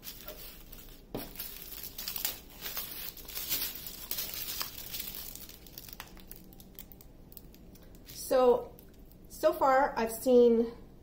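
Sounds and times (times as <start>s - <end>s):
plastic bags crinkling: 0.0s - 9.2s.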